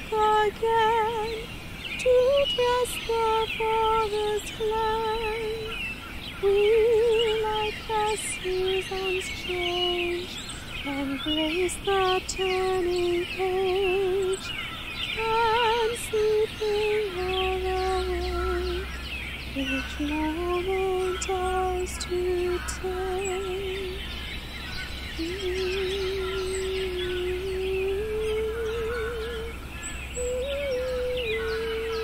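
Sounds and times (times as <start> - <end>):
woman singing unaccompanied: 0.0 - 24.2, 25.1 - 32.0
birds chirping: 0.0 - 32.0.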